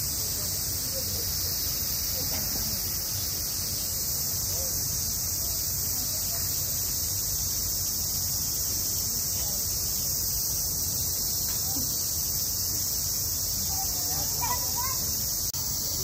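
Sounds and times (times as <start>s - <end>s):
cicadas chorus: 0.0s - 16.0s
murmur of distant voices: 0.0s - 16.0s.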